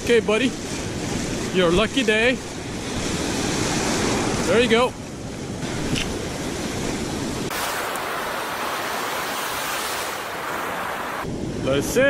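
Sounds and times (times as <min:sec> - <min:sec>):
surf washing up beach: 0:00.0 - 0:11.6.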